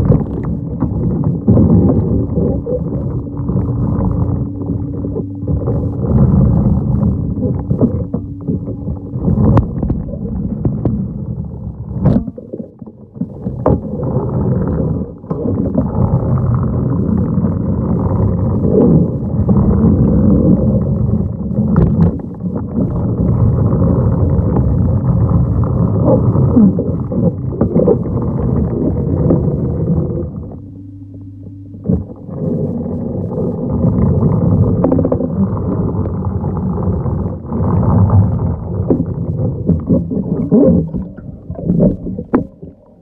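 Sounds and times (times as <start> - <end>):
underwater water and suction rumble: 0.0 - 43.0.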